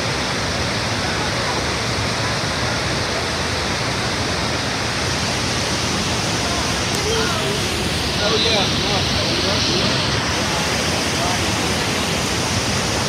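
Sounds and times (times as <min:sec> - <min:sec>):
rush of falling water: 0:00.0 - 0:13.0.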